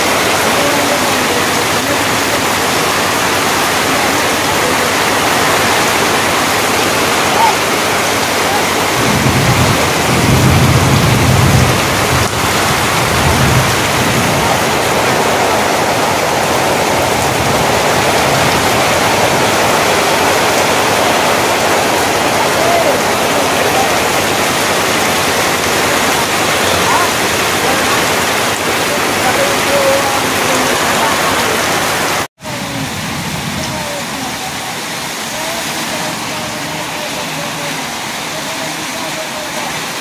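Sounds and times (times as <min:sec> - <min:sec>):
heavy rain on road: 0:00.0 - 0:40.0.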